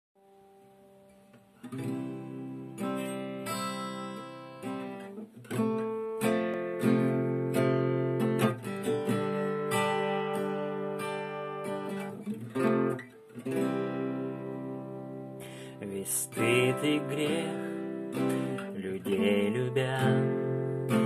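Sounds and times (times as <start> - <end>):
acoustic guitar strumming chords: 0.2 - 21.0.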